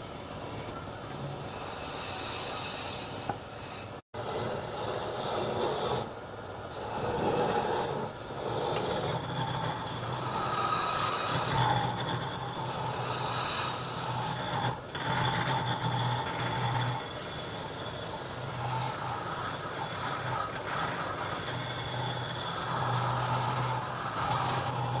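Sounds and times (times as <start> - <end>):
wood lathe motor hum: 0.0 - 6.1, 6.7 - 25.0
turning tool scraping wood: 1.6 - 6.1, 6.8 - 25.0.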